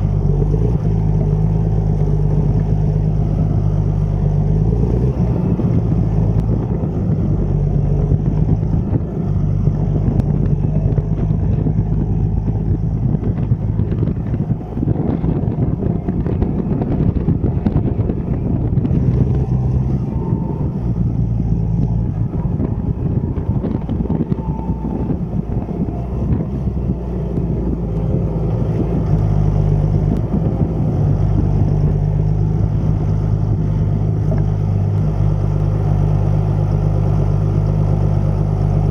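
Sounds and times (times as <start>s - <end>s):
tractor diesel engine humming: 0.0s - 38.9s.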